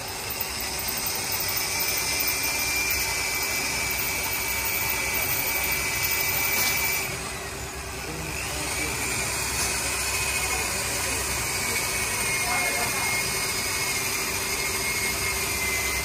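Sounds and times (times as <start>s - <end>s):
power tool hissing: 0.0s - 16.0s
thin high whine: 0.0s - 16.0s.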